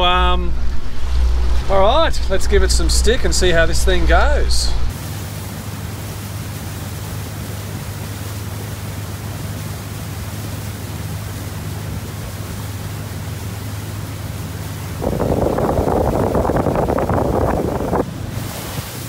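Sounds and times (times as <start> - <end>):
outboard motor droning: 0.0 - 19.0
wind and water hiss: 0.0 - 19.0.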